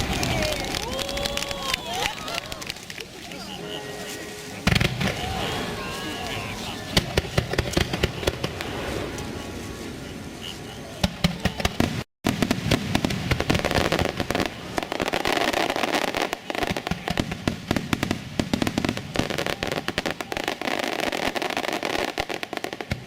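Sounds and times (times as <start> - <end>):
fireworks cracking and popping: 0.0 - 23.0.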